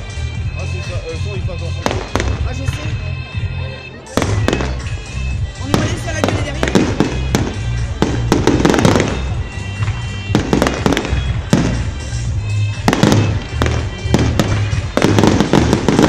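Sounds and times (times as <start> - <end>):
fireworks bangs and crackling: 0.0 - 3.4, 4.0 - 16.0
music with heavy bass: 0.0 - 16.0.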